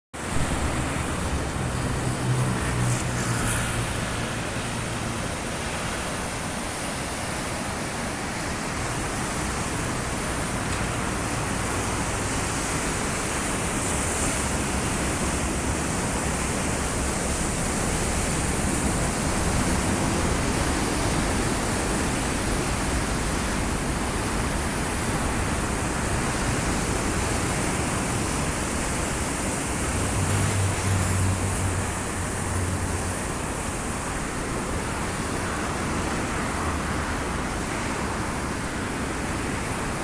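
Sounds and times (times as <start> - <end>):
ocean surf washing on beach: 0.2 - 40.0.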